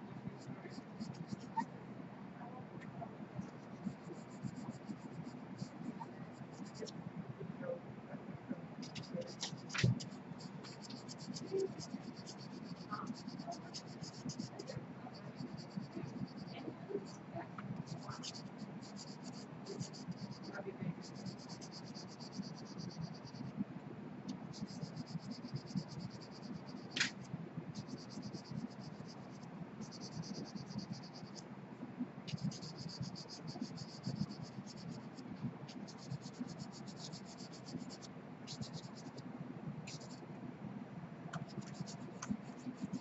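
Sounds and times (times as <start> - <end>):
pencil scratching on paper: 0.4 - 1.6, 3.4 - 7.0, 8.8 - 17.2, 17.8 - 23.5, 24.4 - 31.4, 32.3 - 39.2, 39.9 - 40.2, 41.4 - 43.0.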